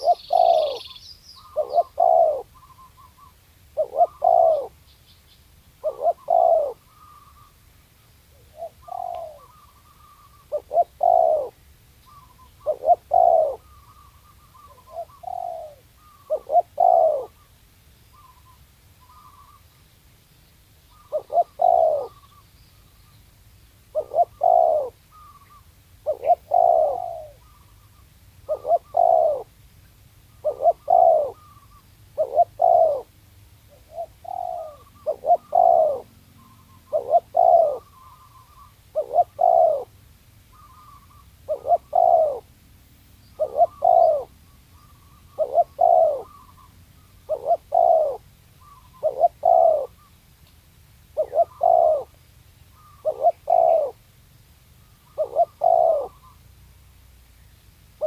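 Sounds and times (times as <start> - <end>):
dove cooing: 0.0 - 4.8, 5.8 - 7.6, 8.3 - 17.5, 20.9 - 22.4, 23.9 - 29.6, 30.3 - 50.2, 51.1 - 54.1, 54.9 - 56.5.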